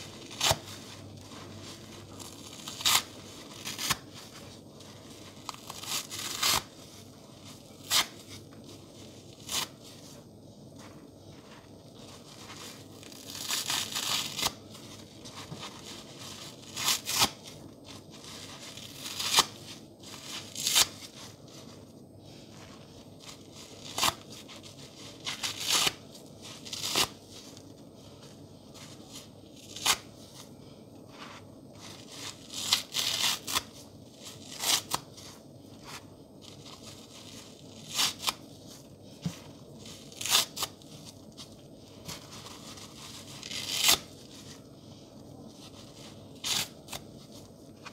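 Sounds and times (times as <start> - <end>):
sponge tearing: 0.0 - 10.2, 10.8 - 21.7, 22.6 - 27.6, 28.7 - 30.4, 31.8 - 44.6, 45.6 - 47.9.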